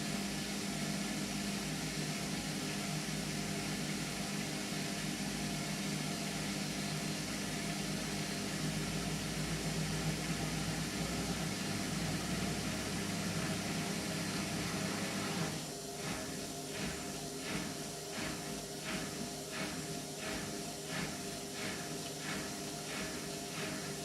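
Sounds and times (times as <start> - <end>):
washing machine hum: 0.0 - 24.0
washing machine whooshing: 0.0 - 24.0.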